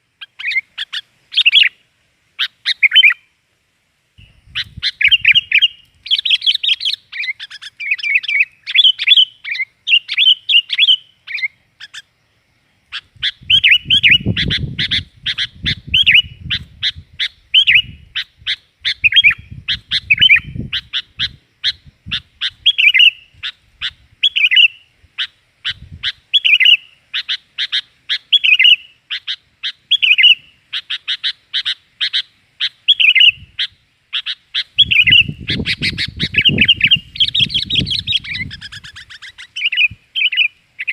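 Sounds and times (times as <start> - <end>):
bird chirping rapidly: 0.0 - 1.8, 2.4 - 3.3, 4.2 - 12.2, 12.9 - 40.9.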